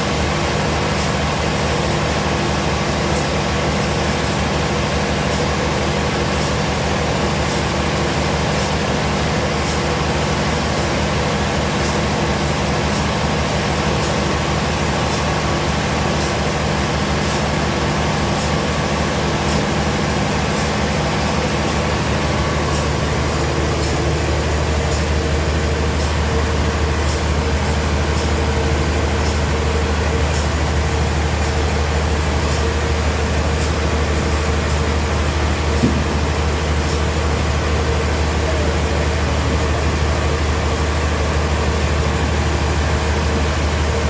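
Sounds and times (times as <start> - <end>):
sawmill machinery hum: 0.0 - 44.0.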